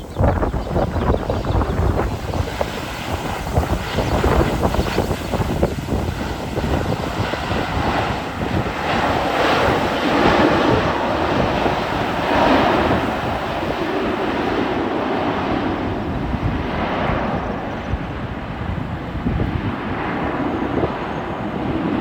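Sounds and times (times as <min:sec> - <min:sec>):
jet engine roar: 0:00.0 - 0:22.0
wind buffeting microphone: 0:00.0 - 0:22.0.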